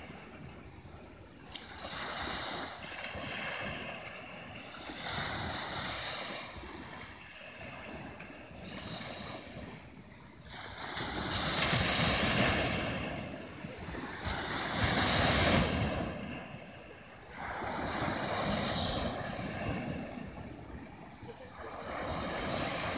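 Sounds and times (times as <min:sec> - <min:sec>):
sea waves breaking on shore: 0:00.0 - 0:22.9.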